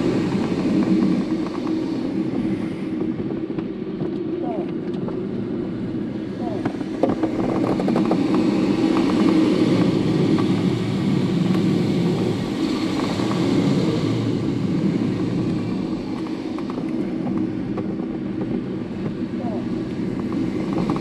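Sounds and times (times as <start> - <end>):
air rushing past glider canopy: 0.0 - 21.0.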